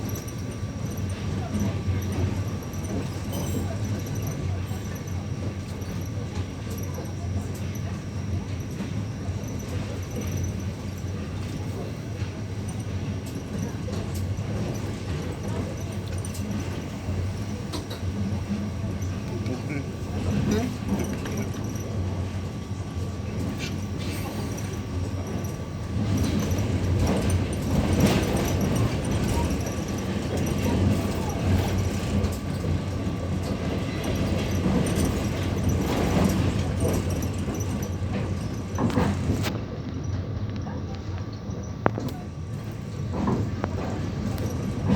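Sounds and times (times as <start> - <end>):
train carriage rumbling on rails: 0.0 - 44.9.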